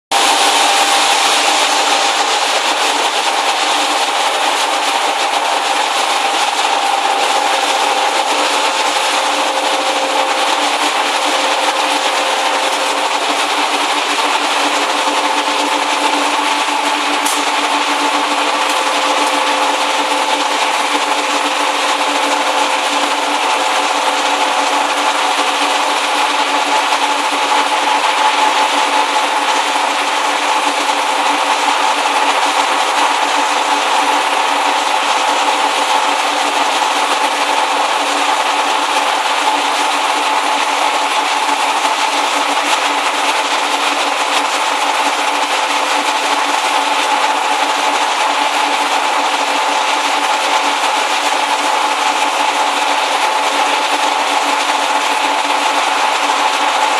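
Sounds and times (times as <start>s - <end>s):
conveyor dryer machine hum: 0.1s - 56.9s.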